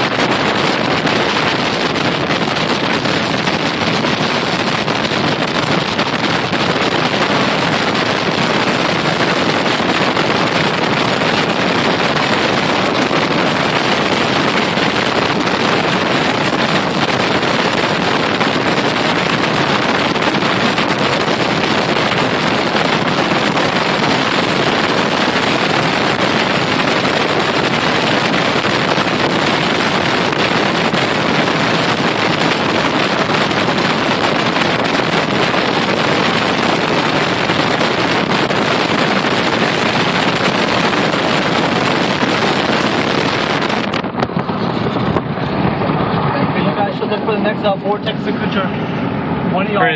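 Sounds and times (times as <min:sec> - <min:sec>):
wind rushing on microphone: 0:00.0 - 0:49.9.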